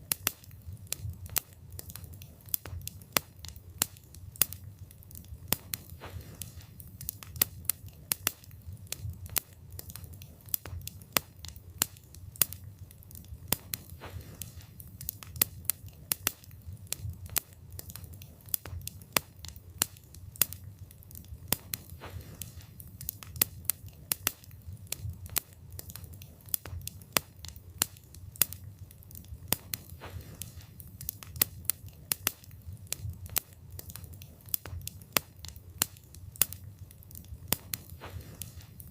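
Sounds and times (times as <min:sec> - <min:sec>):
fire low rumble: 0:00.0 - 0:38.9
wood crackling and popping: 0:00.0 - 0:38.9.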